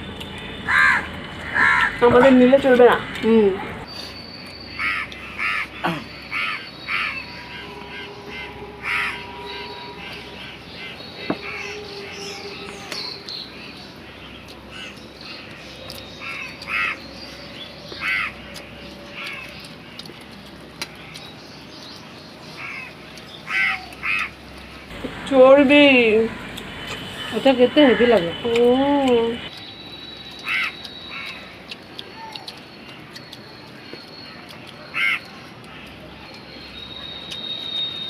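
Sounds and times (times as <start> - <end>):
bird calling: 0.4 - 20.1, 22.6 - 38.0.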